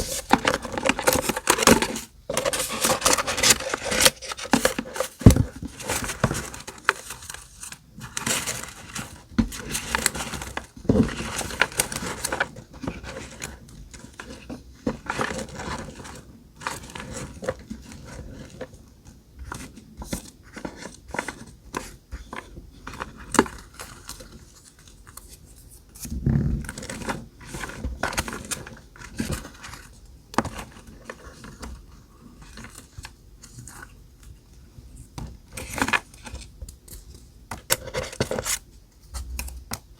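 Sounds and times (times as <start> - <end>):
paper rustling and crinkling: 0.0 - 18.8, 19.4 - 39.8.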